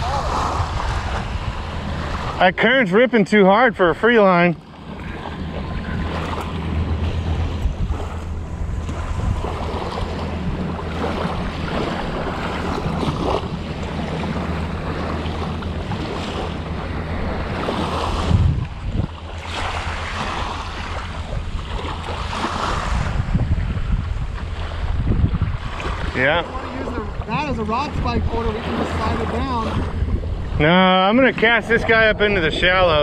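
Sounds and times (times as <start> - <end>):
wind on microphone: 0.0 - 2.6, 3.9 - 33.0
small waves lapping on shore: 0.0 - 33.0.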